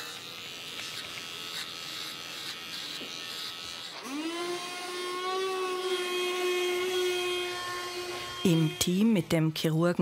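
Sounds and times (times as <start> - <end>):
electric clippers whining: 0.0 - 9.3.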